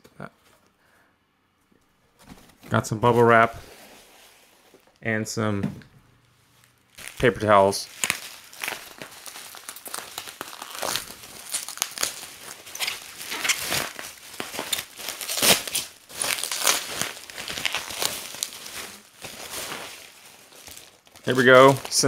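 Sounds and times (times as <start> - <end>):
bubble wrap and paper rustling: 2.2 - 5.0, 6.2 - 22.0.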